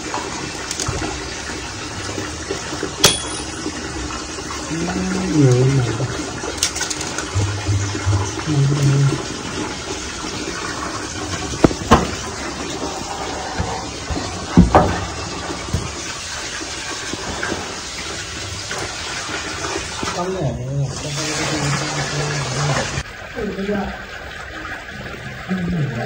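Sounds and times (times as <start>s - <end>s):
hose water splashing and gurgling: 0.0s - 26.0s.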